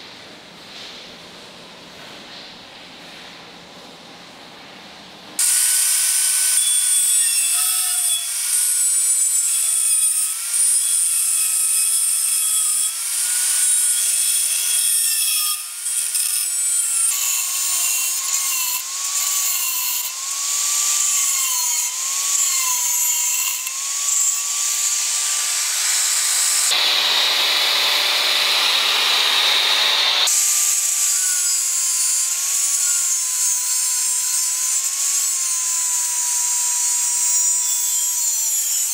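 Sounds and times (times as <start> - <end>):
angle grinder cutting metal: 5.4 - 38.9.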